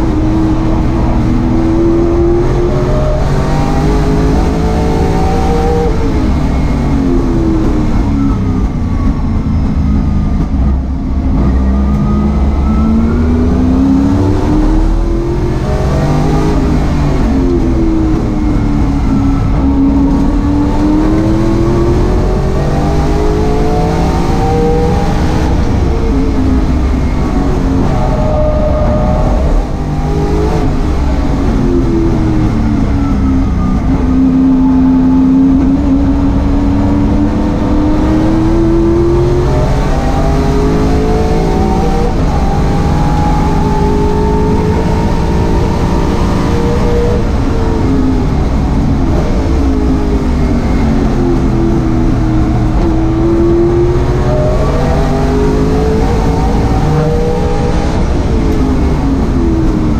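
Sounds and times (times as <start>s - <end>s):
race car engine: 0.0s - 59.9s
road and wind noise: 0.0s - 59.9s.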